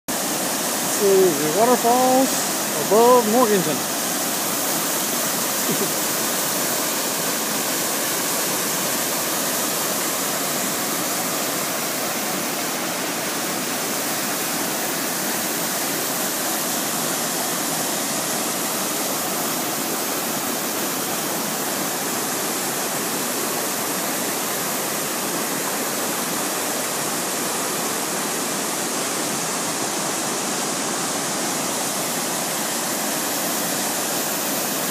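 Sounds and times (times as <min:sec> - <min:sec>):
waterfall rushing over rocks: 0:00.1 - 0:34.9.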